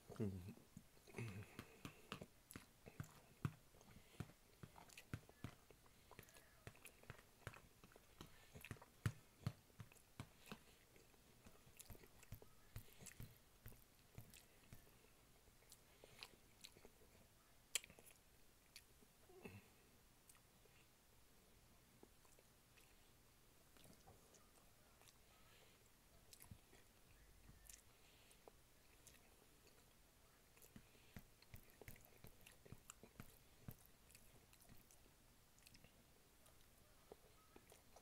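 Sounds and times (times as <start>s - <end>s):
person chewing food: 0.0s - 19.6s, 22.0s - 23.0s, 26.3s - 38.0s.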